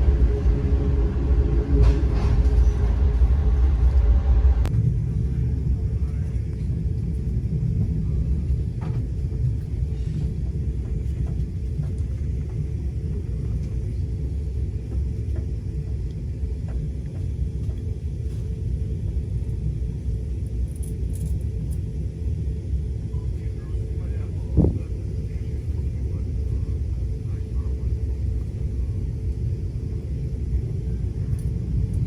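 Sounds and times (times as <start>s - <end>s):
train rumbling along track: 0.0s - 32.0s.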